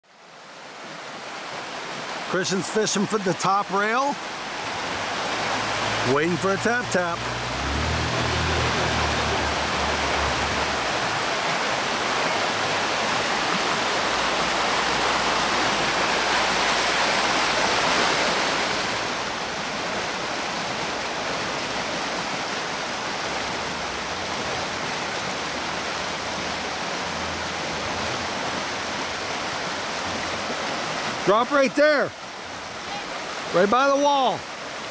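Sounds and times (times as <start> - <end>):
creek water rushing: 0.0 - 34.9.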